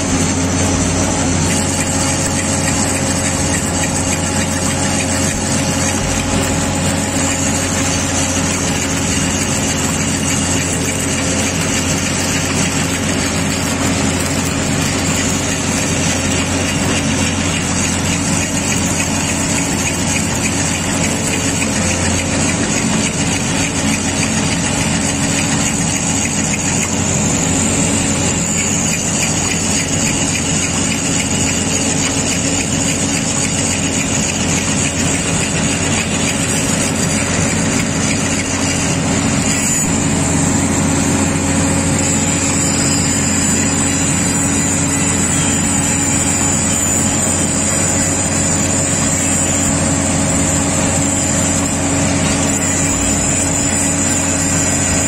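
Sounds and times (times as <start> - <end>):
welding machine drone: 0.0 - 55.0.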